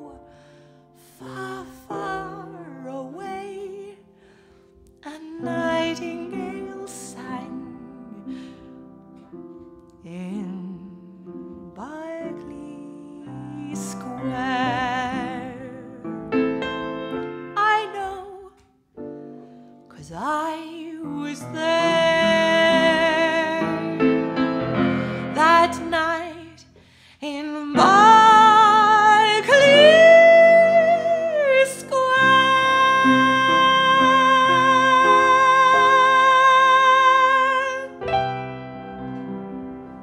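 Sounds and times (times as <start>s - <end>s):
upright piano accompaniment: 0.0s - 19.9s, 20.6s - 26.7s, 27.4s - 40.0s
woman singing with vibrato: 1.0s - 4.0s, 5.0s - 8.6s, 10.0s - 16.4s, 17.5s - 18.6s, 19.9s - 38.0s.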